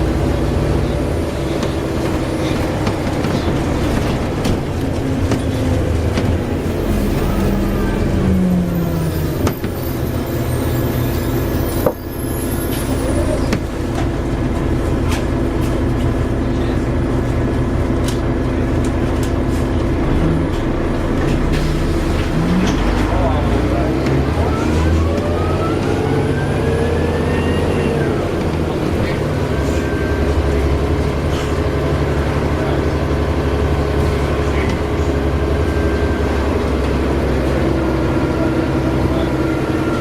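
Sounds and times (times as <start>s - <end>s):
bus engine drone: 0.0s - 40.0s.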